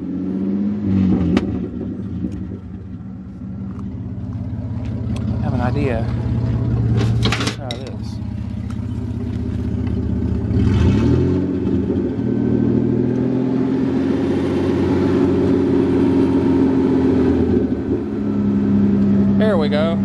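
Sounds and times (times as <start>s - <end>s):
pickup engine revving: 0.0s - 20.0s.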